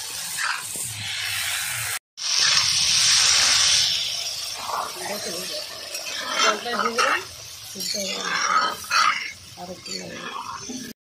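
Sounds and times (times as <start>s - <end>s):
water poured into hot pan: 0.0s - 9.7s
loud steam hiss: 0.0s - 10.9s
food sizzling in oil: 0.0s - 11.0s
spatula turning food in pan: 0.0s - 11.0s.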